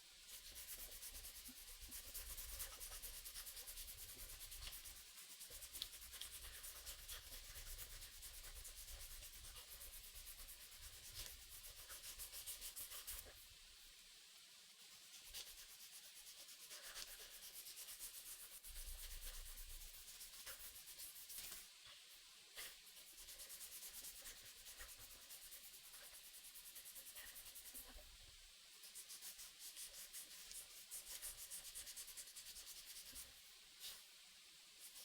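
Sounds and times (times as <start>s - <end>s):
sandpaper rubbing on wood: 0.3s - 13.4s, 14.8s - 21.6s, 22.6s - 28.0s, 28.8s - 34.0s.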